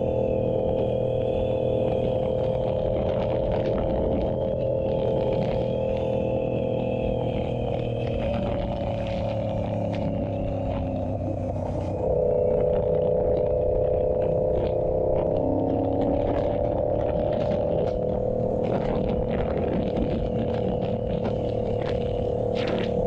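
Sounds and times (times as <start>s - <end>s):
motorcycle engine under throttle: 0.0s - 11.4s, 12.0s - 23.0s.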